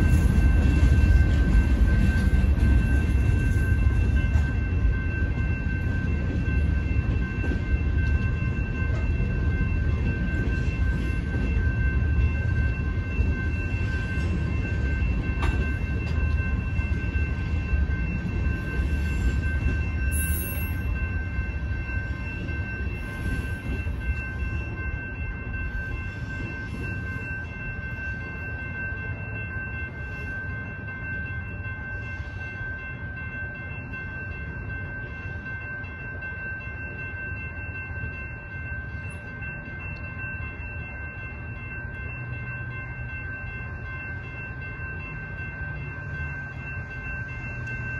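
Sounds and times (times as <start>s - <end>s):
crossing warning bell ringing: 0.0s - 47.9s
train cars rumbling over rails: 0.0s - 47.9s.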